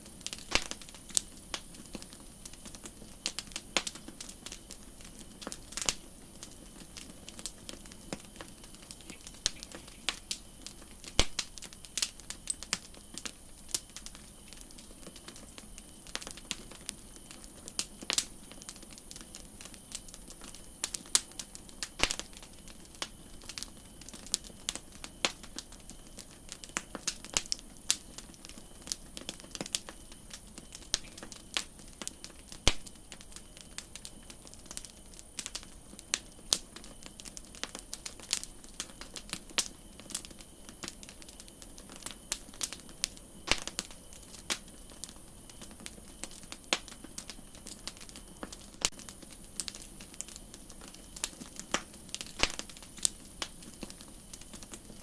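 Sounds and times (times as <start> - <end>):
campfire crackling: 0.0 - 55.0
steady hiss: 0.0 - 55.0.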